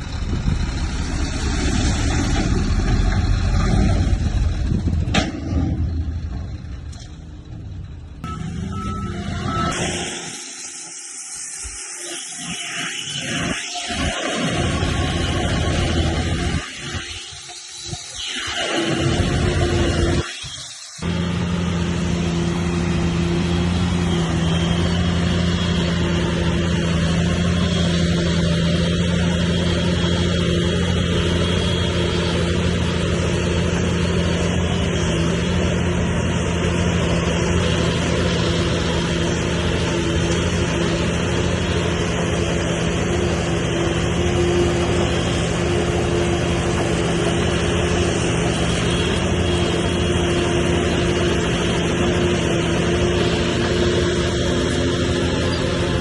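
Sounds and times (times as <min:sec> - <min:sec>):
heavy diesel engine running: 0:00.0 - 0:11.9, 0:13.9 - 0:17.4, 0:21.0 - 0:56.0.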